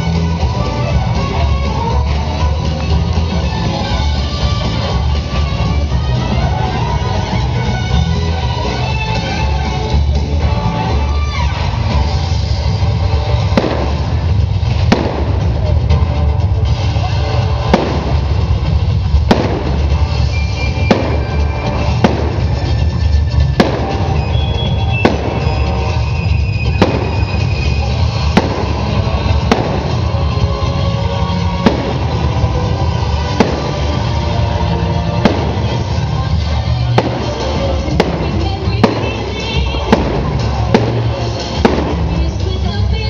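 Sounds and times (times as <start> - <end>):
fireworks bangs: 0.0 - 43.0
music playing: 0.0 - 43.0.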